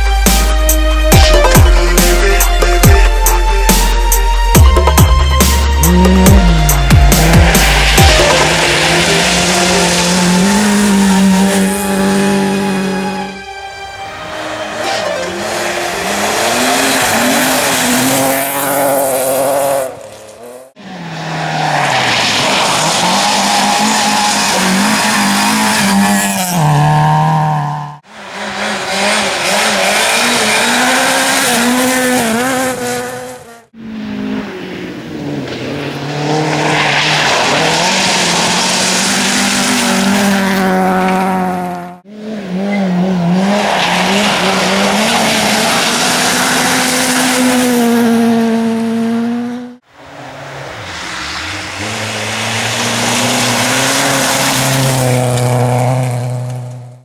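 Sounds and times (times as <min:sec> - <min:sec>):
rally car engines revving: 0:00.0 - 0:13.4, 0:14.0 - 0:57.0.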